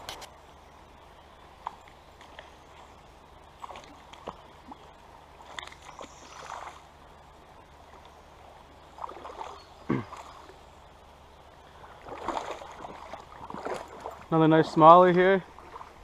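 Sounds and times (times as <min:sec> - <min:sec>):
creek water splashing: 0:00.0 - 0:16.0.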